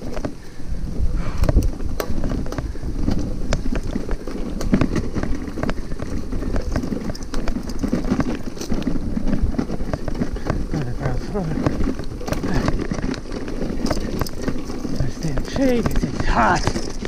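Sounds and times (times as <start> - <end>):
bike clicks and knocks: 0.0 - 0.6, 1.3 - 17.0
bike tyres rumbling on dirt: 0.0 - 17.0
wind on microphone: 0.0 - 17.0.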